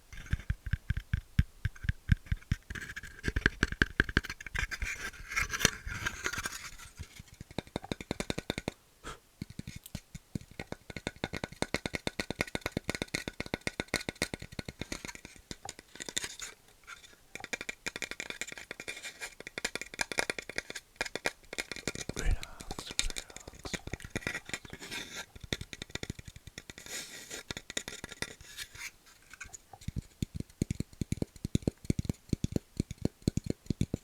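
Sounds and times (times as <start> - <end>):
light tapping and scratching on wood: 0.0 - 8.8, 9.4 - 34.0.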